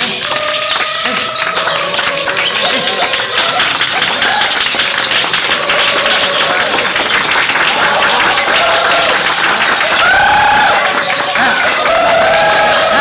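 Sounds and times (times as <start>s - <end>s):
bird rattling chatter: 0.0s - 12.1s.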